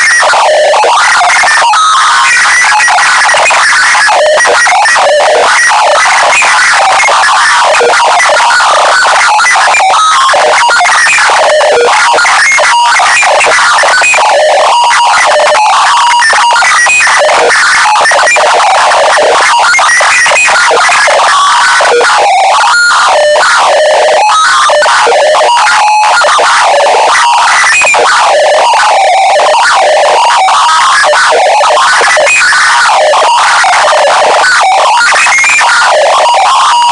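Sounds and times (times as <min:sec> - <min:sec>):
garbled synth-like tones: 0:00.0 - 0:36.9
harsh clipped distortion: 0:00.0 - 0:36.9.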